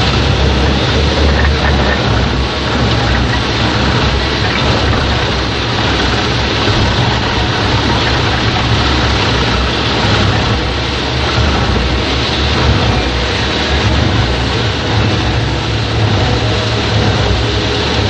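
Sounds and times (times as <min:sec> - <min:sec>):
wood chipper running: 0:00.0 - 0:18.0.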